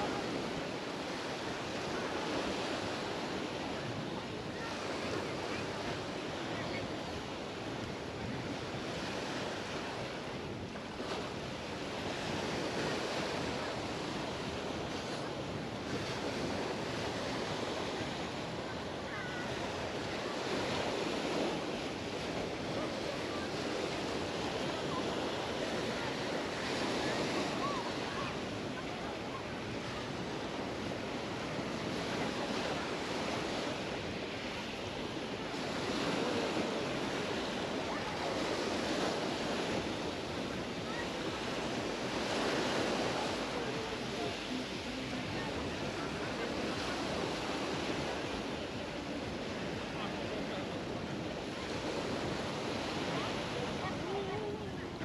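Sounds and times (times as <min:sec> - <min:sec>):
surf breaking on beach: 0:00.0 - 0:55.0
wind on microphone: 0:00.0 - 0:55.0.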